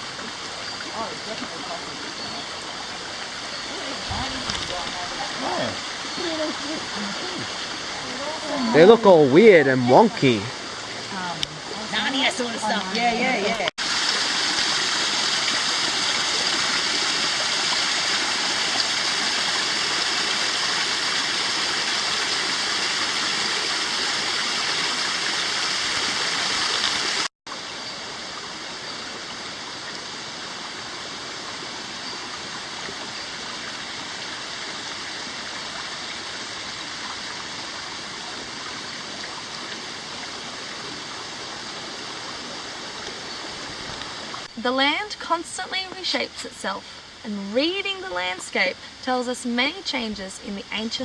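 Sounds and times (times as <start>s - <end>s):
creek water flowing over rocks: 0.0s - 51.0s.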